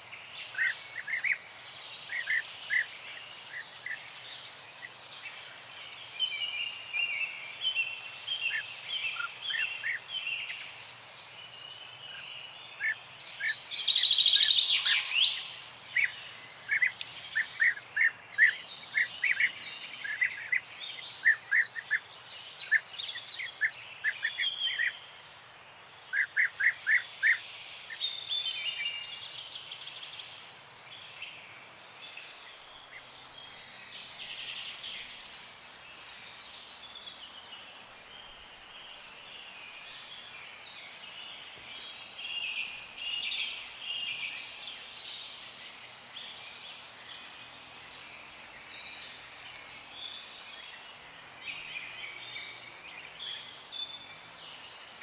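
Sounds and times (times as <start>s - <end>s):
faint steady hiss: 0.0s - 55.0s
songbirds chirping and singing: 0.0s - 55.0s.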